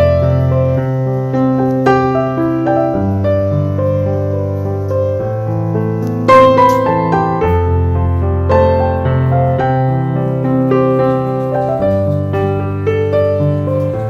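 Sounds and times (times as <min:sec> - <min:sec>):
gentle electric piano music: 0:00.0 - 0:14.0.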